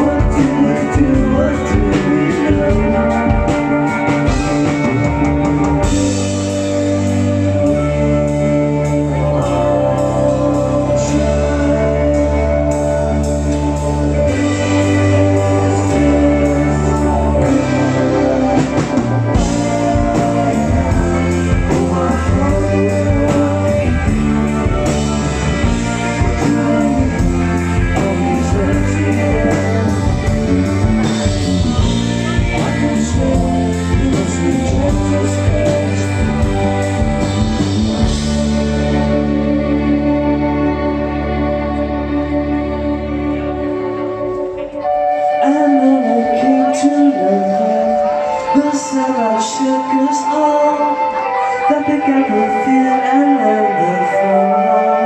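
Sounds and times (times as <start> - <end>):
rock music with singing: 0.0 - 55.0.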